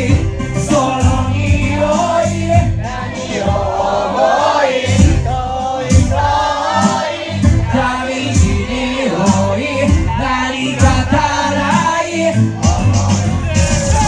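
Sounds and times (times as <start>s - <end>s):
drum hits: 0.0s - 4.0s, 4.9s - 12.0s, 12.6s - 14.0s
heavy bass line: 0.0s - 14.0s
voices singing: 0.0s - 14.0s.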